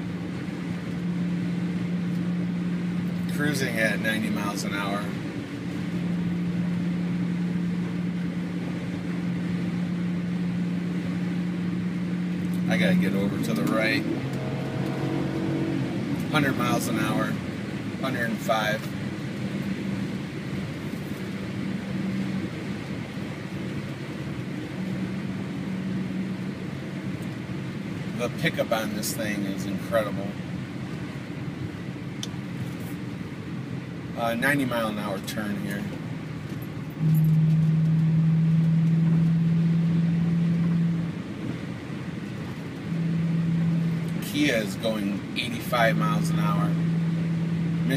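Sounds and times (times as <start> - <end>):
low car hum: 0.0 - 47.9
road and wind noise: 0.0 - 47.9.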